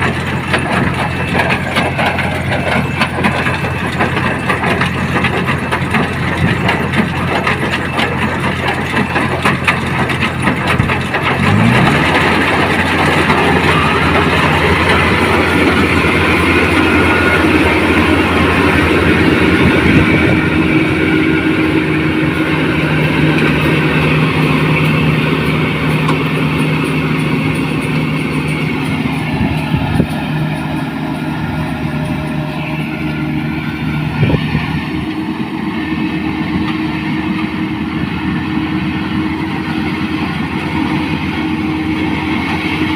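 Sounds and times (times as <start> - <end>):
combine harvester engine revving: 0.0 - 42.9.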